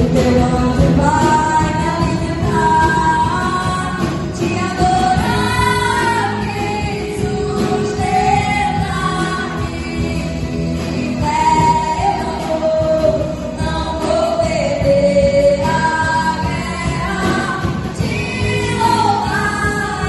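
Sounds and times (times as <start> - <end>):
band playing: 0.0 - 20.0
woman singing: 0.0 - 20.0.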